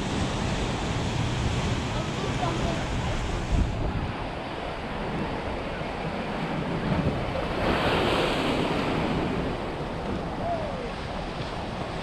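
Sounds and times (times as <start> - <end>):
surf breaking on shoreline: 0.0 - 12.0
wind buffeting microphone: 0.0 - 12.0.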